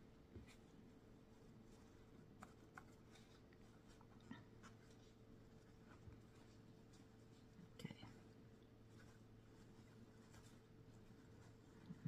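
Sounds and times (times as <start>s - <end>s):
faint steady hum: 0.0s - 12.0s
paper towel rustling on brush: 0.0s - 12.0s.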